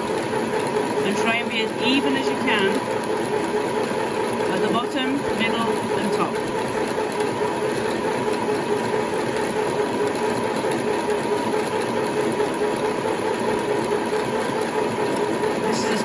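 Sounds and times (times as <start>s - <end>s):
sewing machine motor whirring: 0.0s - 16.0s.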